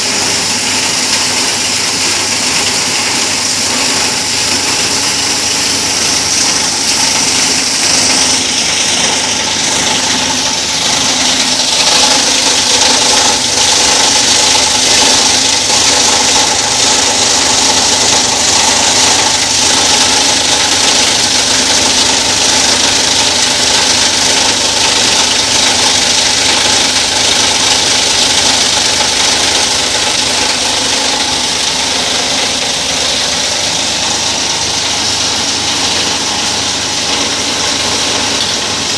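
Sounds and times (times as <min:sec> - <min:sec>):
motor hum: 0:00.0 - 0:38.9
plastic grinder crackling: 0:00.0 - 0:38.9.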